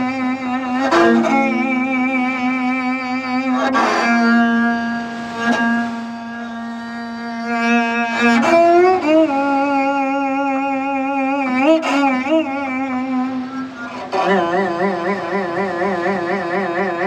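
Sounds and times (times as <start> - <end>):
bowed zither with deep vibrato: 0.0 - 17.0.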